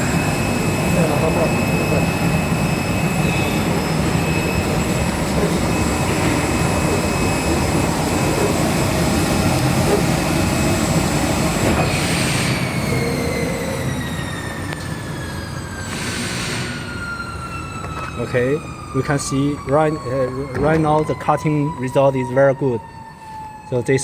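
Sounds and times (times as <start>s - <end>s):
cnc cutter running with high whine: 0.0s - 24.0s.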